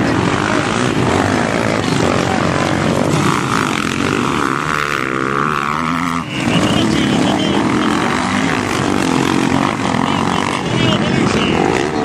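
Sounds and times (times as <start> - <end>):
motorbike engines revving: 0.0 - 12.0.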